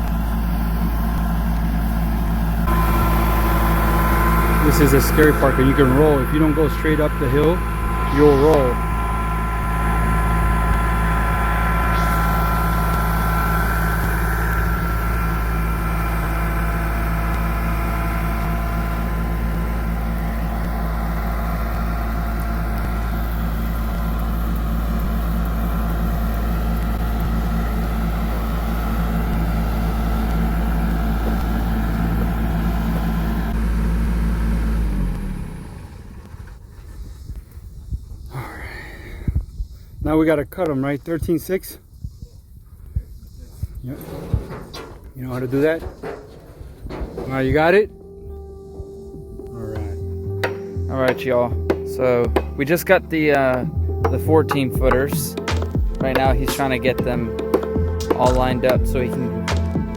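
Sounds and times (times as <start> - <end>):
vehicle engine running: 0.0 - 38.2, 42.8 - 59.9.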